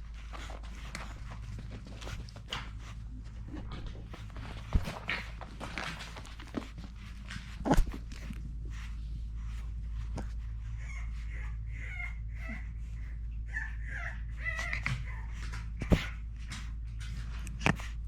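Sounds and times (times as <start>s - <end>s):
puppy whimpering: 0.0s - 18.0s
steady low hum: 0.0s - 18.0s.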